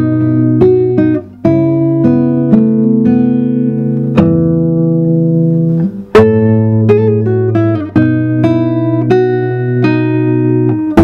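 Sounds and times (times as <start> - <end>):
classical guitar chords: 0.0 - 11.0.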